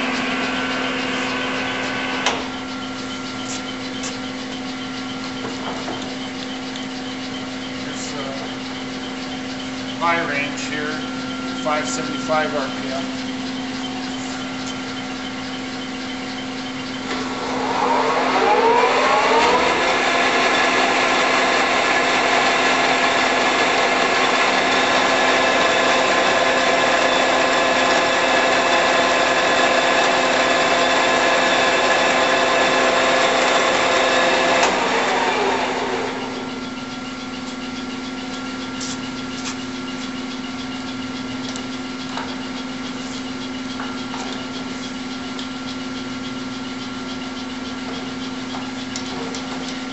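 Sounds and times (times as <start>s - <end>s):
lathe gear whine: 0.0s - 49.9s
lathe motor humming: 0.0s - 49.9s.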